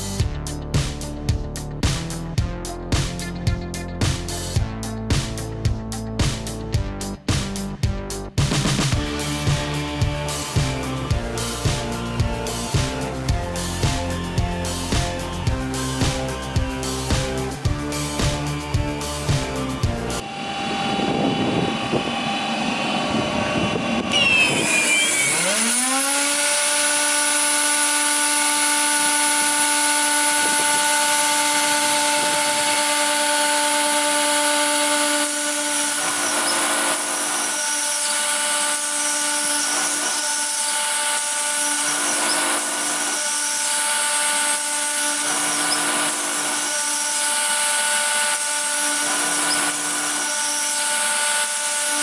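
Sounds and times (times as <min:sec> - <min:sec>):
cutter head whine: 0:00.0 - 0:52.0
rough wood cutting noise: 0:00.0 - 0:52.0.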